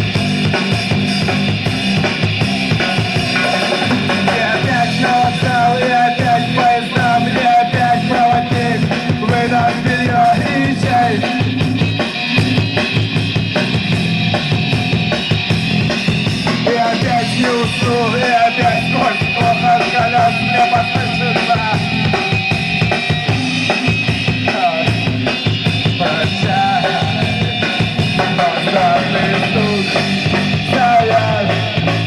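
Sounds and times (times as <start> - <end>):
drum kit: 0.0 - 32.0
high melodic line: 0.0 - 32.0
loud rock music: 0.0 - 32.0.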